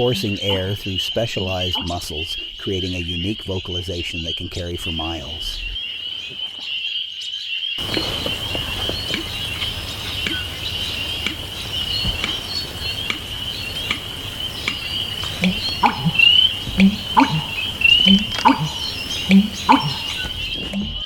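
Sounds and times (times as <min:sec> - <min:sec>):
frog chorus trilling: 0:00.0 - 0:21.0.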